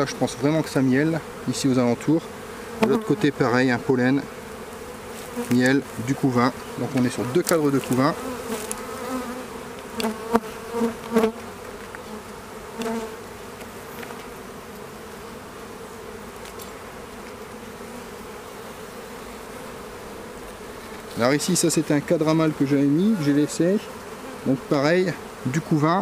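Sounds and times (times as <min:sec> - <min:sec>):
bees humming: 0:00.0 - 0:26.0.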